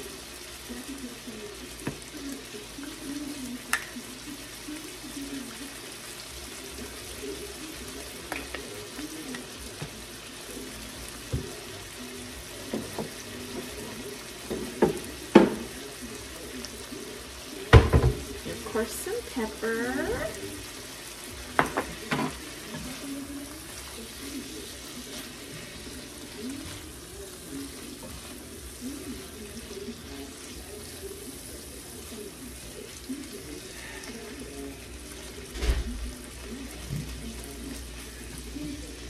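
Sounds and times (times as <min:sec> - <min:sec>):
chicken sizzling in frying pan: 0:00.0 - 0:39.0.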